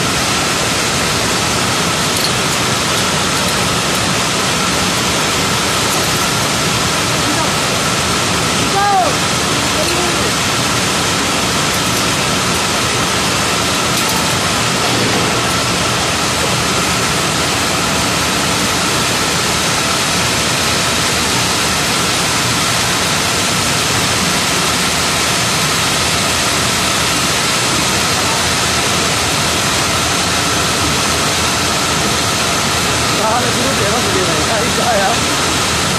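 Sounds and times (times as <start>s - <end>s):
tape winding machines running: 0.0s - 35.9s.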